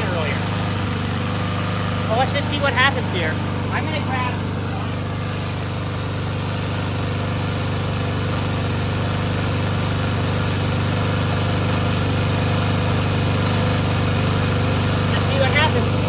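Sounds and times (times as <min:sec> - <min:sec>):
lawnmower engine running: 0:00.0 - 0:16.0.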